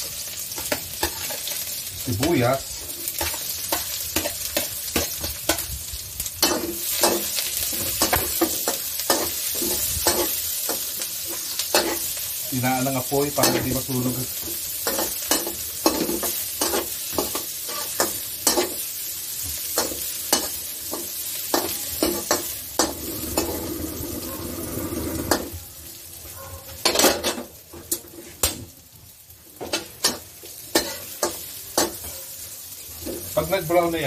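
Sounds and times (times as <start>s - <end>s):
garlic and onion sizzling in oil: 0.0s - 34.0s.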